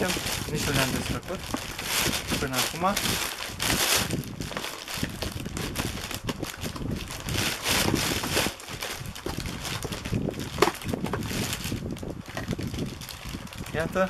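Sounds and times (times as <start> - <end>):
cardboard box tearing: 0.0 - 11.8
packaging crinkling: 0.0 - 14.0.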